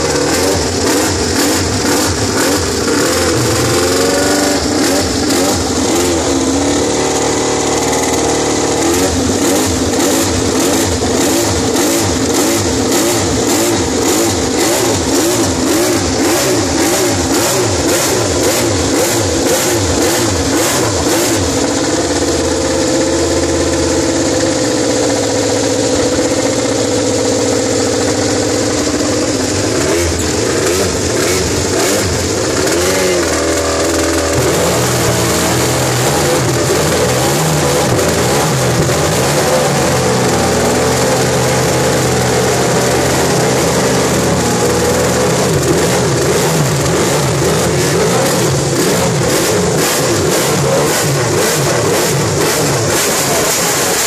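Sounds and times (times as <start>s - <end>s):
race engines revving: 0.0s - 54.0s.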